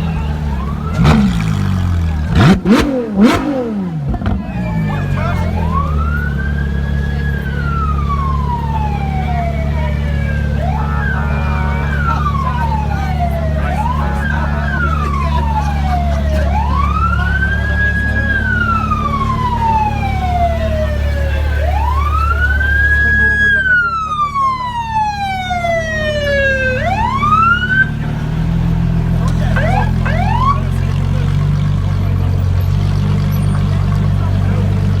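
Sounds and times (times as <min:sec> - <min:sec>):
electronic siren wailing: 0:00.0 - 0:28.0, 0:29.4 - 0:30.7
low engine rumble: 0:00.0 - 0:35.0.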